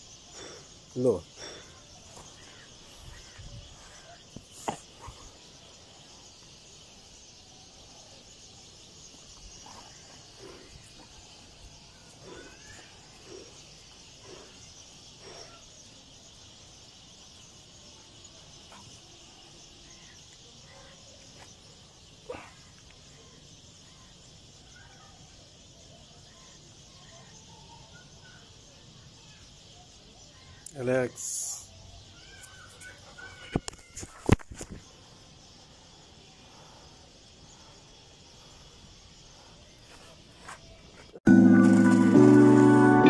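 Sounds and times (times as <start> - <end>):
insects chorus: 0.0 - 43.0.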